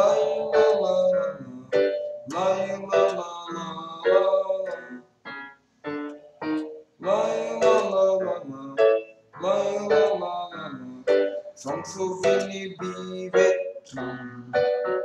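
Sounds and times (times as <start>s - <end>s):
boy singing: 0.0s - 5.0s, 7.0s - 14.8s
piano accompaniment: 0.0s - 15.0s.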